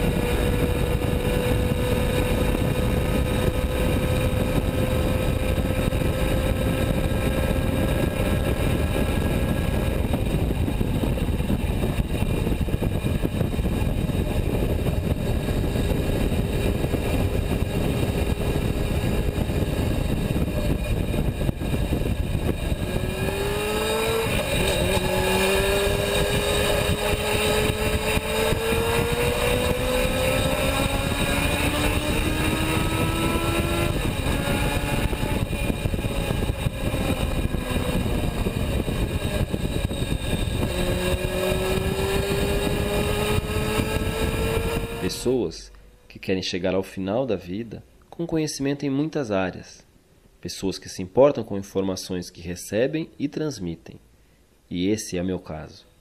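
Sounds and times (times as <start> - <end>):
wind rush: 0.0 - 45.6
motorcycle engine accelerating: 0.0 - 45.7.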